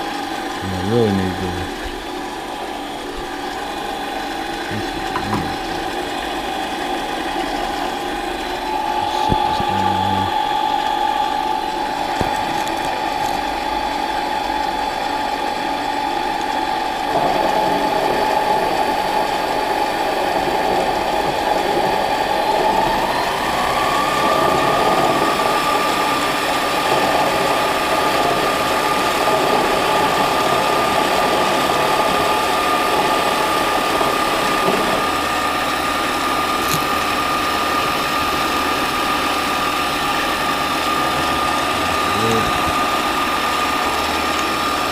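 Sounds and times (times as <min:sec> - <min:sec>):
lathe motor whine: 0:01.4 - 0:44.9.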